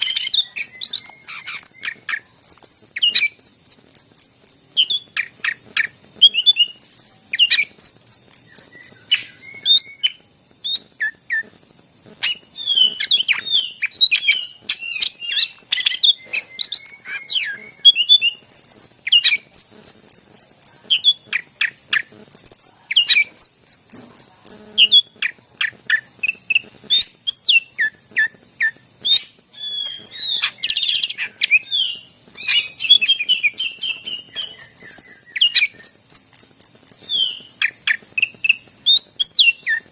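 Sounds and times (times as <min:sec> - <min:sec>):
bird singing chirps and trills: 0:00.0 - 0:11.5, 0:12.2 - 0:39.9
steady high hiss: 0:00.0 - 0:39.9.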